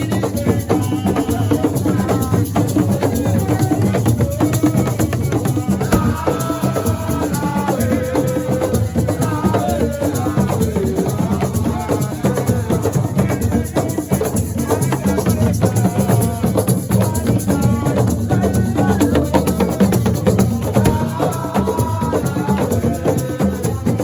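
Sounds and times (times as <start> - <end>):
hand percussion fast rhythm: 0.0 - 24.0.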